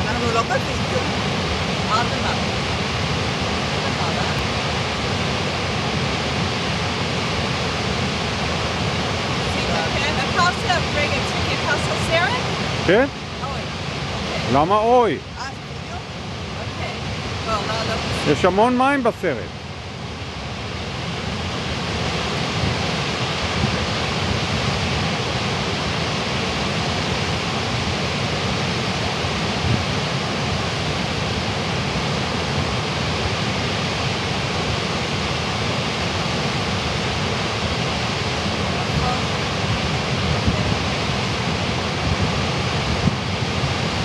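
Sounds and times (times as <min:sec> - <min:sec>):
waterfall roaring: 0:00.0 - 0:44.0
wind buffeting microphone: 0:00.0 - 0:44.0.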